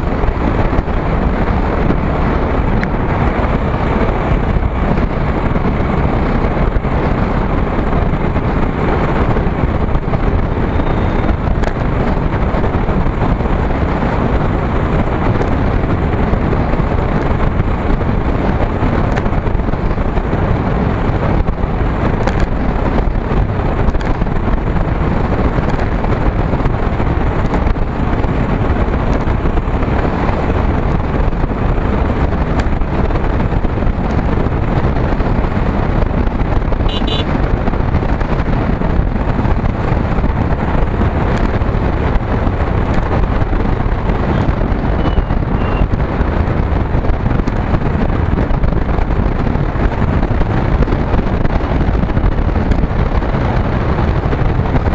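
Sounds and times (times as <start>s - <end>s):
motorcycle engine: 0.0s - 54.9s
road noise: 0.0s - 54.9s
wind buffeting microphone: 0.0s - 54.9s.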